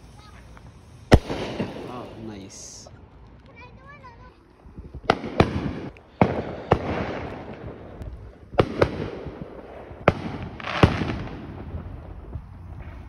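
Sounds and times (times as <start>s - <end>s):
fireworks bangs: 0.0s - 2.9s, 5.0s - 13.0s
fireworks crackling: 0.0s - 13.0s.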